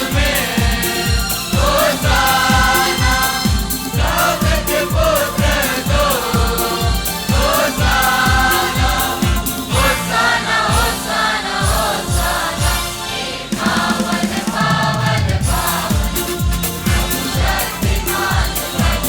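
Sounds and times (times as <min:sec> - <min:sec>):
band accompaniment: 0:00.0 - 0:19.0
steady drum beat: 0:00.0 - 0:19.0
voices singing a hymn: 0:00.0 - 0:19.0.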